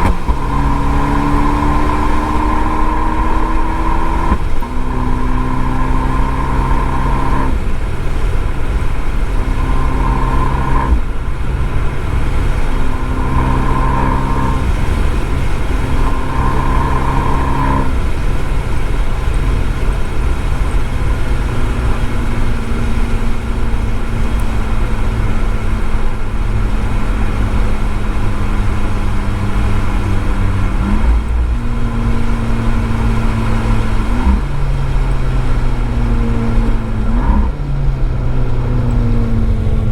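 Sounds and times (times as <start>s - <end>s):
car engine at speed: 0.0s - 39.9s
road and spray noise: 0.0s - 39.9s.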